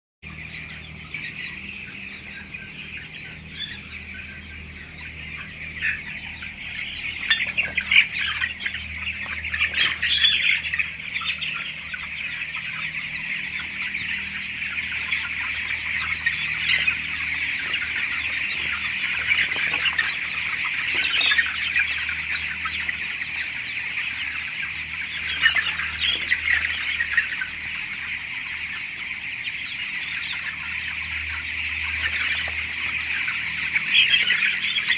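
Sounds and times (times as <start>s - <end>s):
chicks cheeping: 0.2s - 34.9s
chick squawks: 0.3s - 34.9s.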